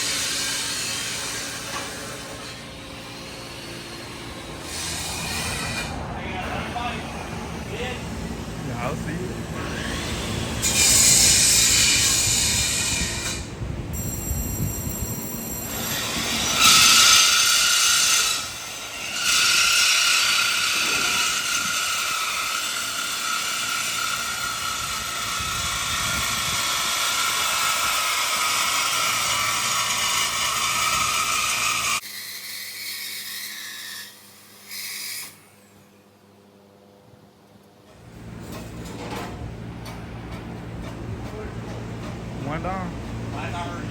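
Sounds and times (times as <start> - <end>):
power cutting tool screeching: 0.0 - 35.7.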